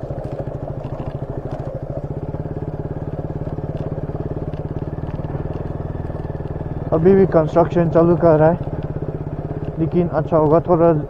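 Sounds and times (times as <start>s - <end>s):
light ticks and rattles: 0.0s - 11.0s
motorcycle engine running: 0.0s - 11.0s.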